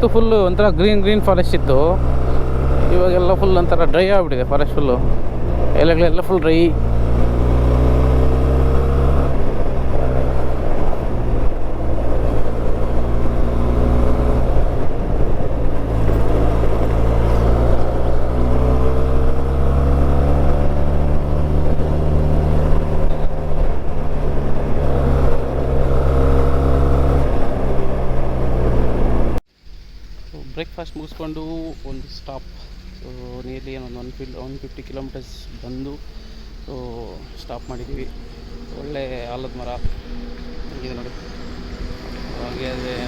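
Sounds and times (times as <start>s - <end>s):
motorcycle engine running: 0.0s - 29.4s, 35.4s - 43.0s.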